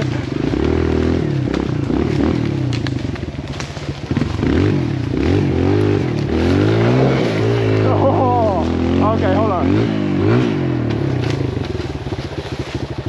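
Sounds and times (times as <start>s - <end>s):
clicks and clatter: 0.0s - 8.8s, 10.8s - 13.0s
dirt bike engine revving: 0.0s - 13.0s.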